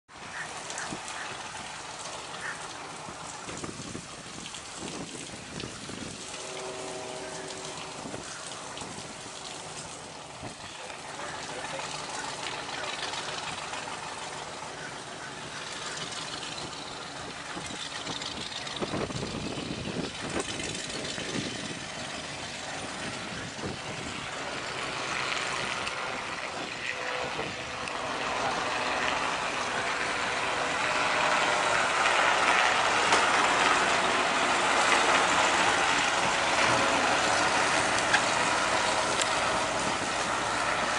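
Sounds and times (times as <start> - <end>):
helicopter in flight: 0.1 - 40.9.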